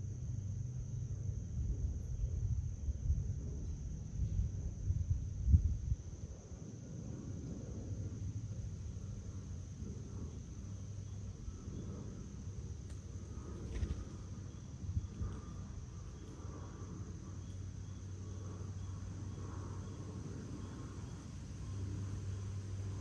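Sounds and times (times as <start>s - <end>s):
constant low rumble: 0.0s - 23.0s
high insect drone: 0.0s - 23.0s.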